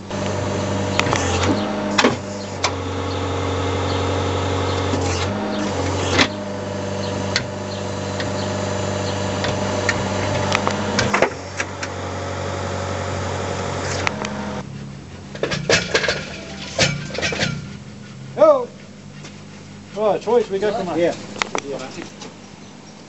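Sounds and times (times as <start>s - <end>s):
hydraulic machine humming: 0.0s - 19.0s.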